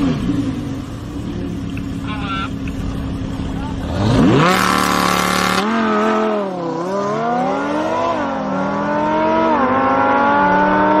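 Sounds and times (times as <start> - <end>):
sports car engine accelerating: 0.0 - 11.0.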